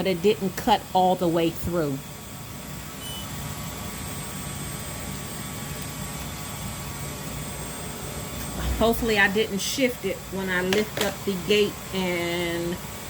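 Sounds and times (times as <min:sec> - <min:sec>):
laser engraver whirring hum: 0:00.0 - 0:13.0.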